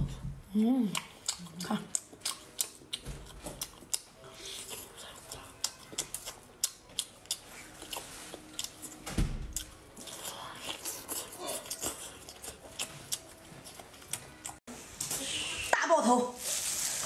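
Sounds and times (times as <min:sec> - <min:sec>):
sharp crunches of chewing: 0:00.9 - 0:14.6
wet chewing mouth sounds: 0:00.9 - 0:14.6.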